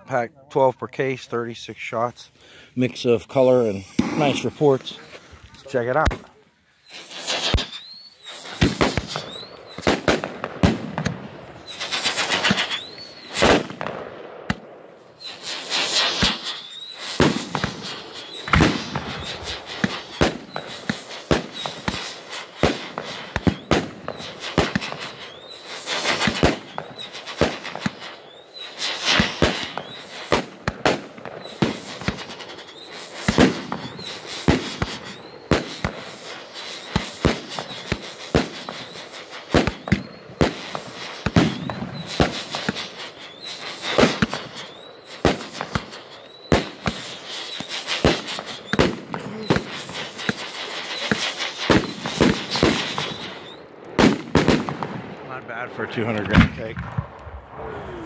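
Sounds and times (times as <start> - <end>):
firework hissing: 1.5 - 58.0
firework bangs: 2.8 - 58.0.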